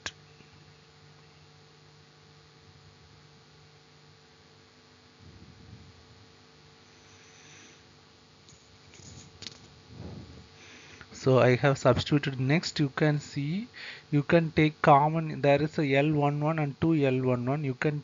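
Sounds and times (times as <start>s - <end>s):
faint electrical hum: 0.0s - 18.0s
low background hiss: 0.0s - 18.0s.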